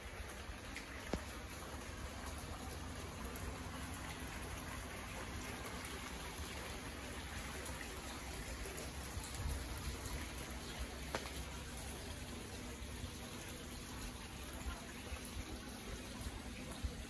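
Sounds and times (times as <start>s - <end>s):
fountain splashing into pond: 0.0s - 17.0s
low steady rumble: 0.0s - 17.0s.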